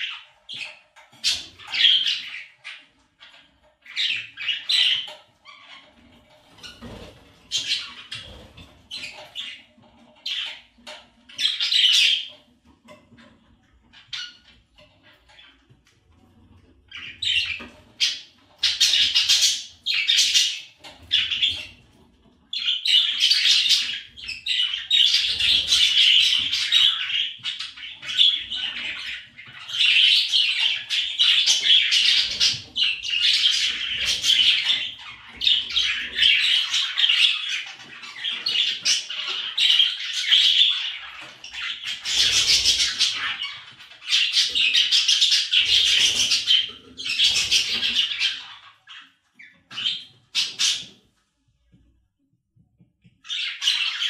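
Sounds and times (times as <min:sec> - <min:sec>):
budgerigars chattering and warbling: 0:00.0 - 0:51.0, 0:53.2 - 0:54.0.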